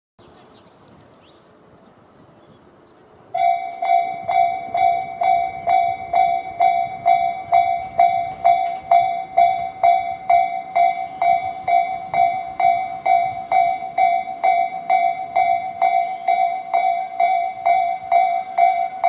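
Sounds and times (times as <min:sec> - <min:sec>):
level crossing warning bell: 0:03.4 - 0:19.0.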